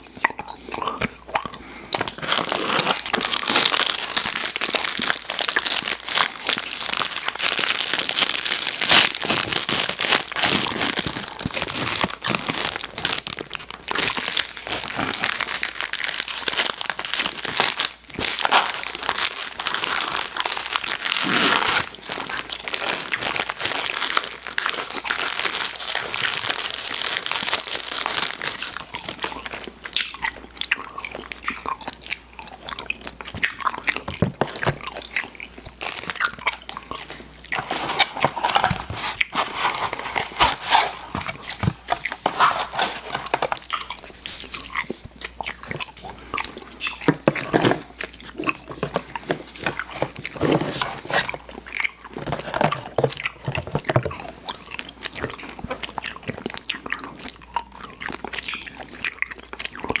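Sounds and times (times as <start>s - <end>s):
biting and chewing sweets: 0.0s - 60.0s.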